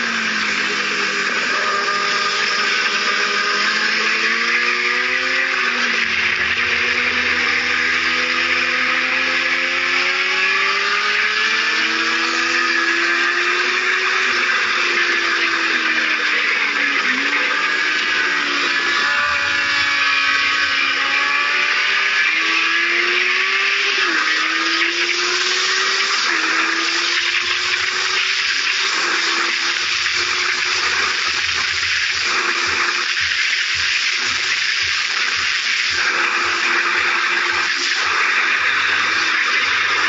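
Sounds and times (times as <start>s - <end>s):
motorcycle engine revving through gears: 0.0s - 40.0s.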